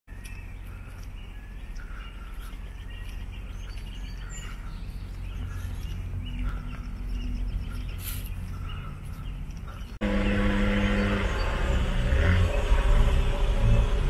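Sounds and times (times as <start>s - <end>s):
small birds chirping: 0.1s - 14.0s
steady low hum: 0.1s - 14.0s.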